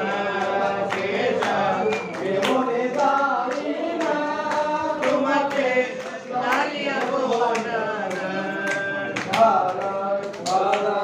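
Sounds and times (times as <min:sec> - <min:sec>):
group singing devotional song: 0:00.0 - 0:11.0.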